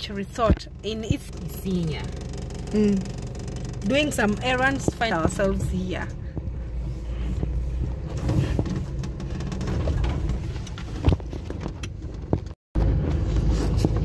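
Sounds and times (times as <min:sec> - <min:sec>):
car engine and road rumble: 0:00.0 - 0:14.0
knocks and rattles: 0:00.3 - 0:12.6.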